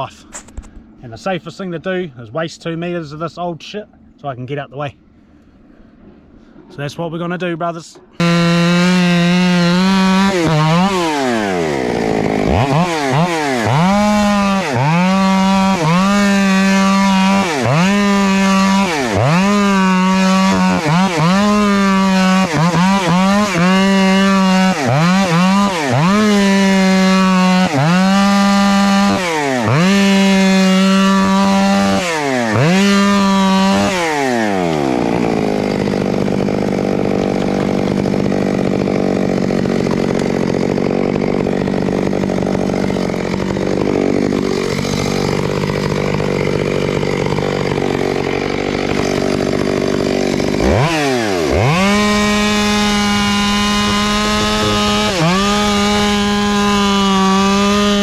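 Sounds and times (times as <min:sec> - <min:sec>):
chainsaw cutting tree trunk: 0:08.2 - 0:58.0.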